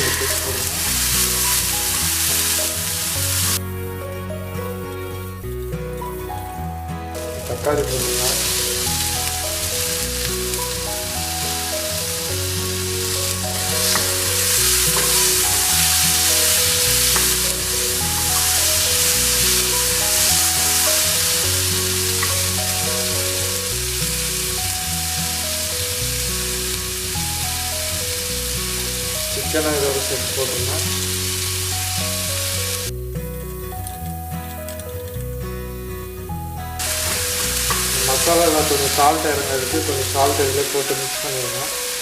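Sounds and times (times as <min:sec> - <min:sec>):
food sizzling in oil: 0:00.0 - 0:03.6, 0:06.0 - 0:32.9, 0:36.8 - 0:42.0
soft background music: 0:00.0 - 0:42.0.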